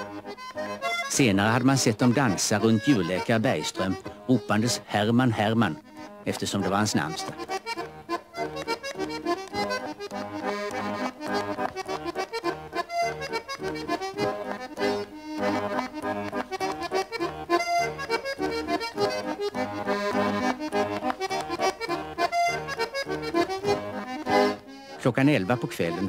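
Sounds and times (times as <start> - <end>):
accordion dance tune: 0.0 - 26.0.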